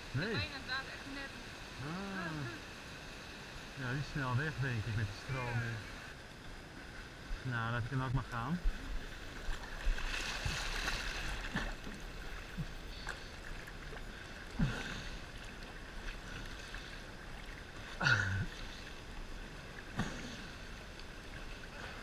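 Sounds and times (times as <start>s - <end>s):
river water lapping and splashing: 0.0s - 22.0s.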